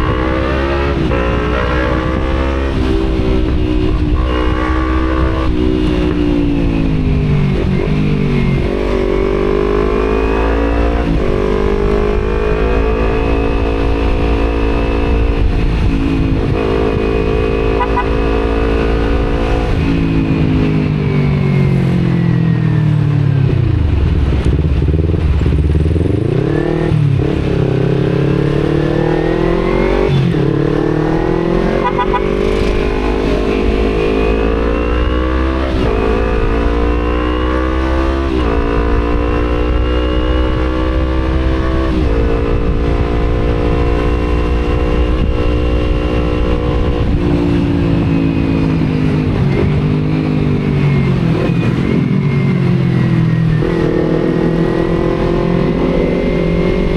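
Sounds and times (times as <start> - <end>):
motorcycle engine revving: 0.0 - 22.6, 23.2 - 56.9
wind rumble on microphone: 0.0 - 56.9.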